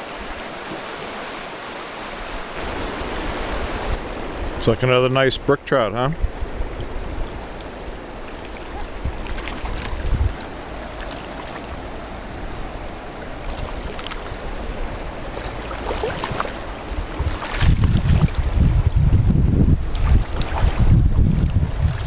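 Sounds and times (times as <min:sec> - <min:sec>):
river current flowing: 0:00.0 - 0:22.0
wind buffeting microphone: 0:02.2 - 0:22.0.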